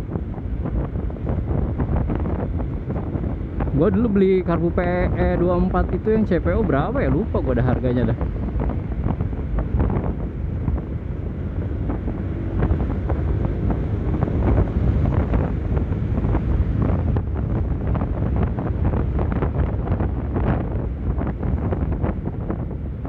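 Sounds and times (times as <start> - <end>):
engine and road rumble: 0.0 - 23.0
wind buffeting microphone: 0.0 - 23.0.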